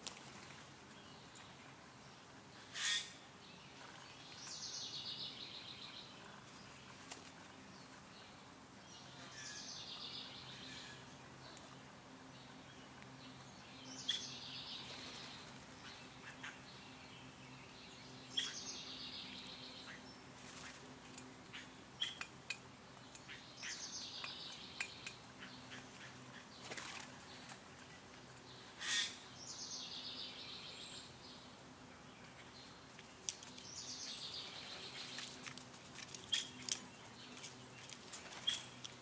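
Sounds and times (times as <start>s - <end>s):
birds calling and singing: 0.4s - 39.0s.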